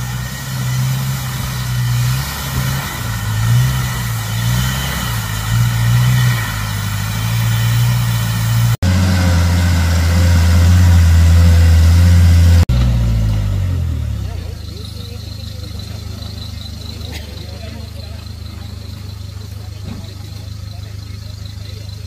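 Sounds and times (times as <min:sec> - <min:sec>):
off-road engine labouring: 0:00.0 - 0:22.0
off-road engine running steadily: 0:00.0 - 0:22.0.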